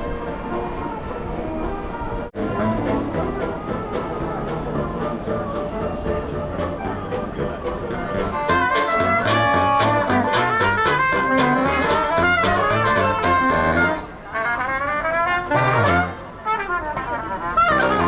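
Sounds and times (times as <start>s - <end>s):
brass-led jazz music: 2.4s - 18.0s.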